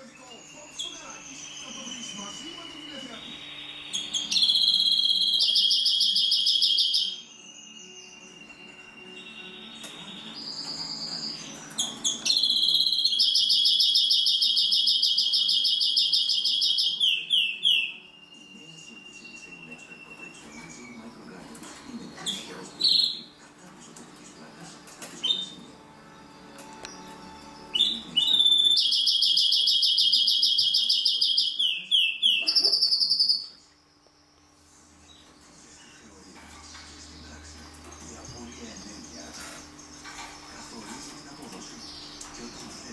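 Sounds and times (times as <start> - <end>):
finch singing: 0.0 - 23.4, 24.2 - 25.8, 26.6 - 33.6, 35.0 - 42.9.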